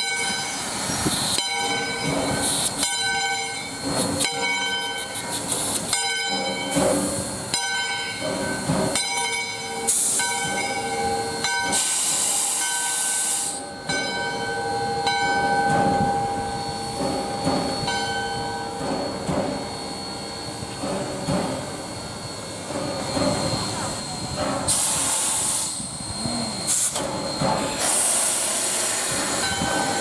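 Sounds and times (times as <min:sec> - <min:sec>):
steam hissing bursts: 0:00.0 - 0:13.9, 0:15.7 - 0:30.0.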